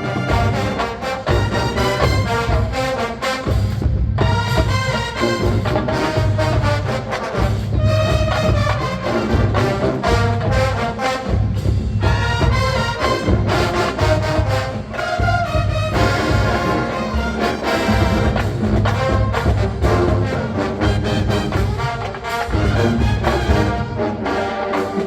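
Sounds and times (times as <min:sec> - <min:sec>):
brass melody: 0:00.0 - 0:25.0
drums: 0:00.0 - 0:25.0
marching band playing funk: 0:00.0 - 0:25.0.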